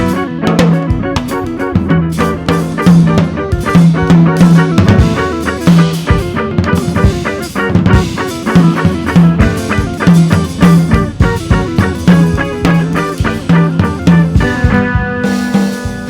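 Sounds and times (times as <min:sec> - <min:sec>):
drum kit beat: 0:00.0 - 0:16.0.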